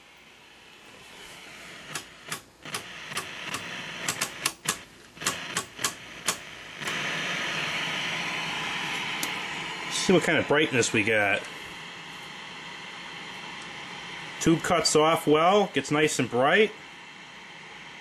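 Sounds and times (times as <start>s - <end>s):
television static hiss: 0.0s - 18.0s.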